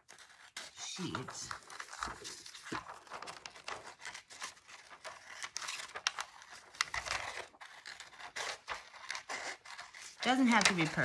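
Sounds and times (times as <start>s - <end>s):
paper rustling: 0.0s - 11.0s
scissors snipping paper: 0.0s - 11.0s.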